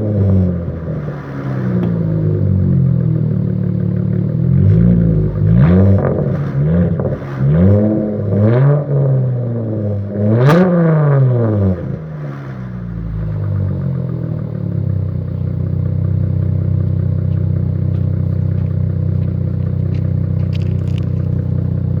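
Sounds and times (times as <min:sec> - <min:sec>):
car exhaust revving and idling: 0:00.0 - 0:22.0.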